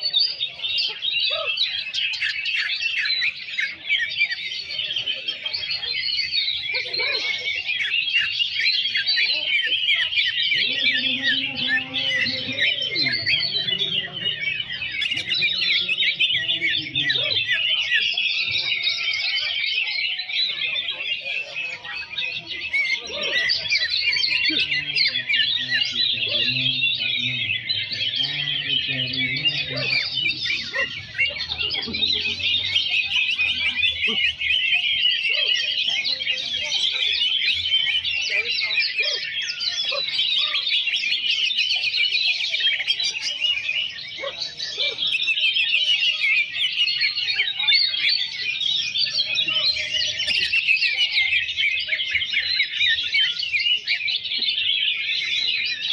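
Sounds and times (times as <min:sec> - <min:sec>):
birds singing in chorus: 0:00.0 - 0:55.9
murmur of voices: 0:00.0 - 0:55.9.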